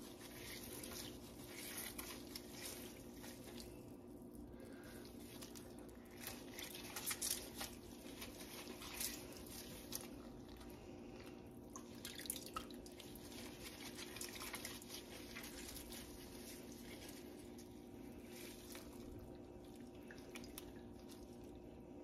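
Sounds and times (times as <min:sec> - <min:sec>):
whey dripping and splashing: 0:00.0 - 0:04.0, 0:04.6 - 0:21.9.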